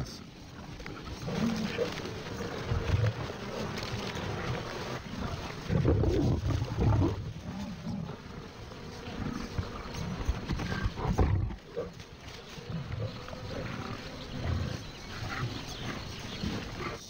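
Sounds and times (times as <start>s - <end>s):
lions growling: 0.0s - 17.0s.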